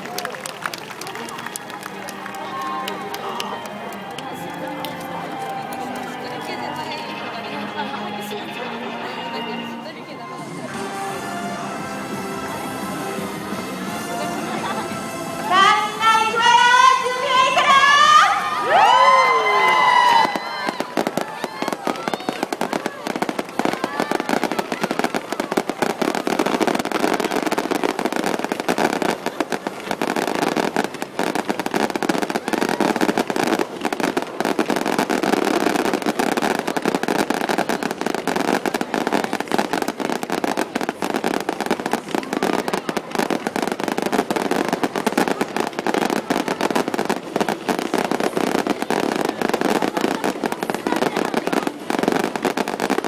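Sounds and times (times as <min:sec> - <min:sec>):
fireworks cracks and bangs: 0:00.0 - 0:53.0.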